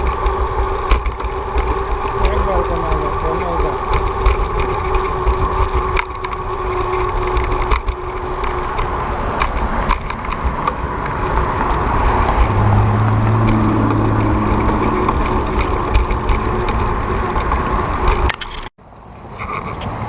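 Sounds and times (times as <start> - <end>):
wind rushing over microphone: 0.0 - 18.4
bicycle rattling and clicking: 0.0 - 18.7, 19.3 - 20.0.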